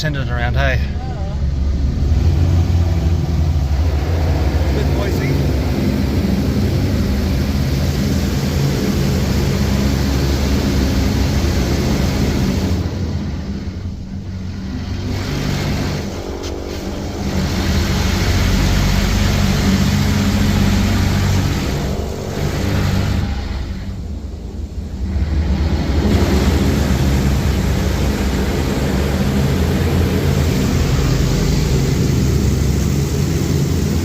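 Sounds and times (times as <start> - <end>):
low pump hum: 0.0 - 34.0
water jets spraying car: 0.0 - 34.0.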